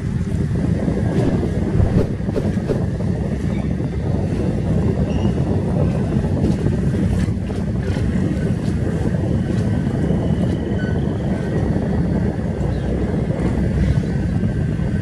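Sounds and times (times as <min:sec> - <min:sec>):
boat engine low rumble: 0:00.0 - 0:15.0
boat wash: 0:00.0 - 0:15.0
wind buffeting microphone: 0:00.0 - 0:15.0.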